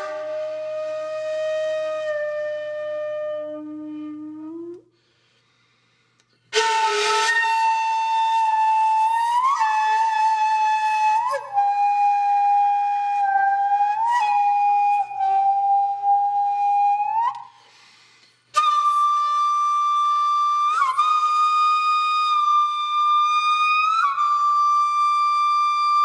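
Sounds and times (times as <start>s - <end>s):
flute-like wind instrument: 0.0s - 5.0s, 6.5s - 17.8s, 18.5s - 26.0s.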